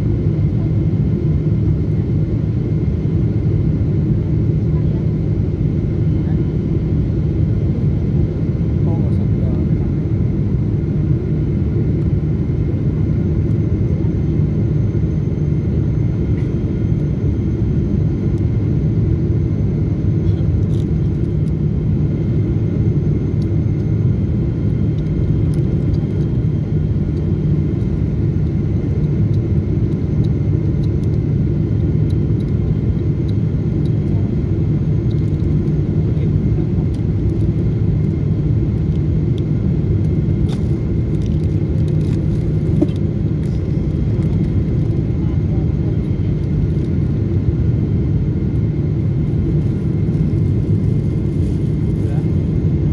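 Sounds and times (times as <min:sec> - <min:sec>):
jet engine and airflow rumble: 0:00.0 - 0:52.9.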